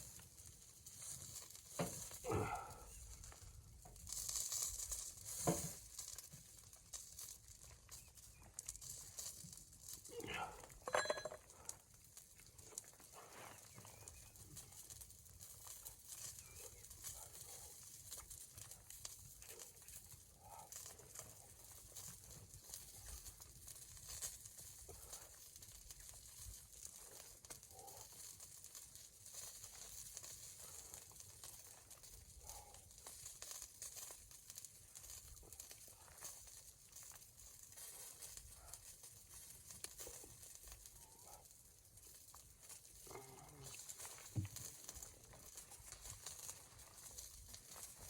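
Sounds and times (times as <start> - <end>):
faint crackling and rustling: 0.0 - 48.0.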